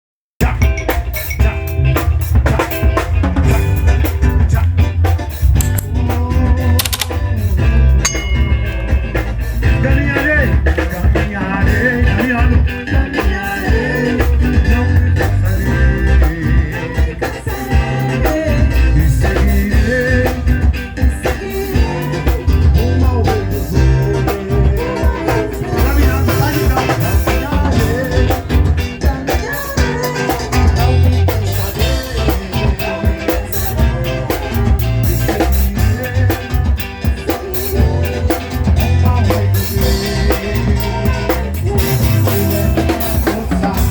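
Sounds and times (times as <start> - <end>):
bass: 0.4 - 43.9
drum kit: 0.4 - 43.9
guitar: 0.4 - 43.9
person singing: 0.4 - 43.9.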